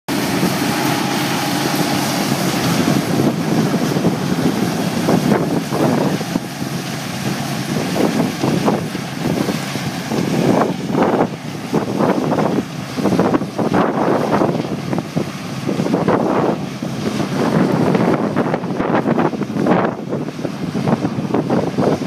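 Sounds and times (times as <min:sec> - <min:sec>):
combine harvester running: 0:00.1 - 0:22.0
wind buffeting microphone: 0:00.1 - 0:22.0.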